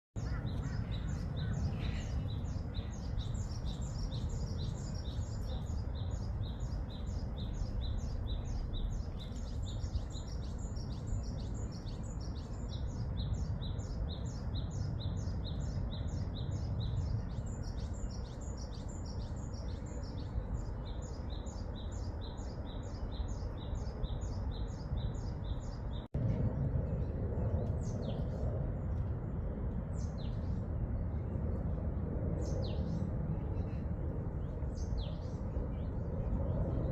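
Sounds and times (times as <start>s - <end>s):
bird chirping: 0.2s - 26.1s, 32.4s - 36.9s
low outdoor rumble: 0.2s - 36.9s.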